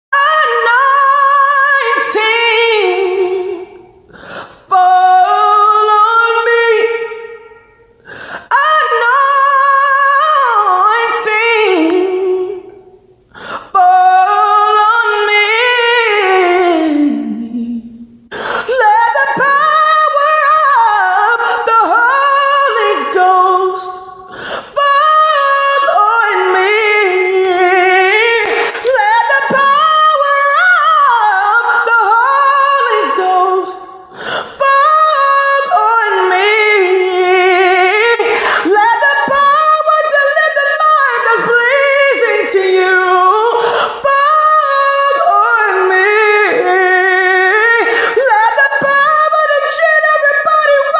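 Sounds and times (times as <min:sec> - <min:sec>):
woman singing unaccompanied: 0:00.1 - 0:07.8, 0:08.4 - 0:50.9.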